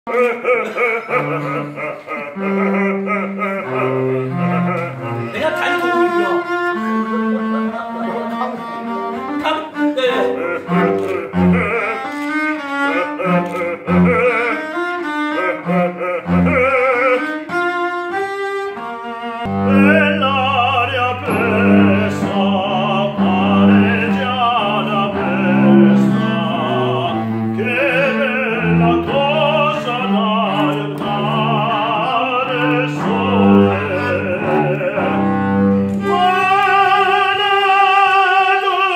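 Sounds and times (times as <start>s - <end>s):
man singing operatically: 0.1s - 6.5s, 9.4s - 17.6s, 19.5s - 38.9s
bowed cello: 0.1s - 38.9s.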